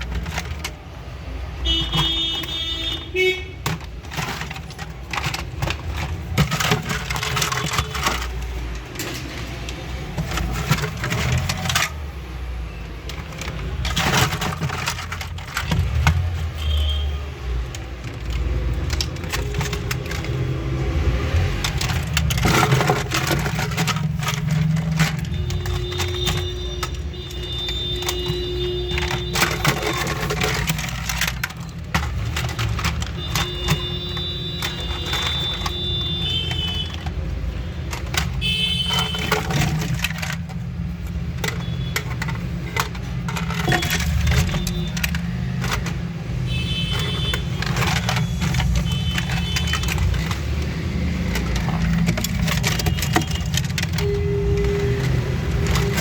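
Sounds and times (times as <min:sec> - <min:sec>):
plastic toy gun clicks and rattles: 0:00.0 - 0:56.0.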